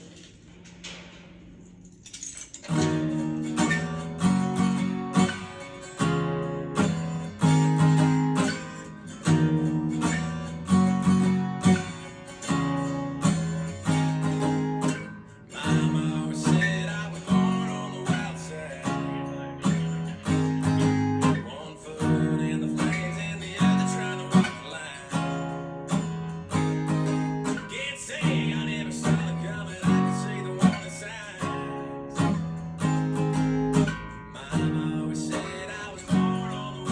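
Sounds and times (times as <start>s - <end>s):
acoustic guitar strumming: 2.6s - 36.9s.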